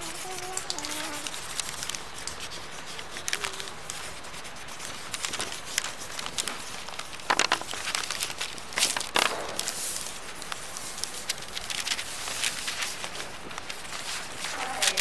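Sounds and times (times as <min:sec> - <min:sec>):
drawing tool scraping paper: 0:00.0 - 0:15.0.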